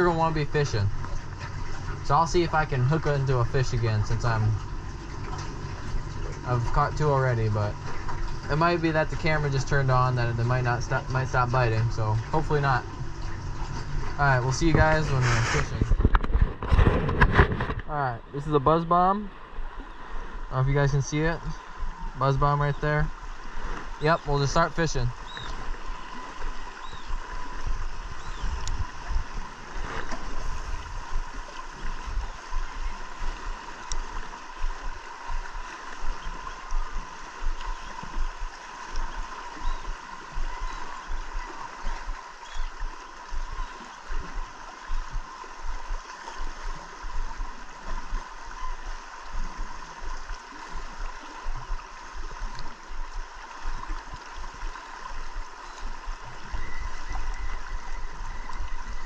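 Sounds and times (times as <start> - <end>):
wind gusting on microphone: 0.0 - 18.6, 25.0 - 59.0
faint steady hum: 0.0 - 59.0
water lapping against boat: 0.0 - 59.0.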